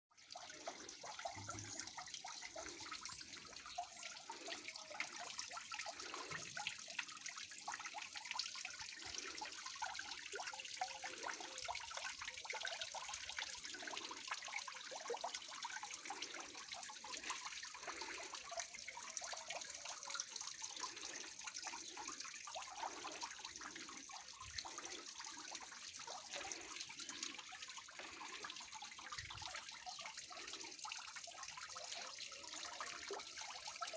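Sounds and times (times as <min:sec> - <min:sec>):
water gurgling: 0:00.1 - 0:33.9
small waterfall splashing: 0:00.2 - 0:33.9.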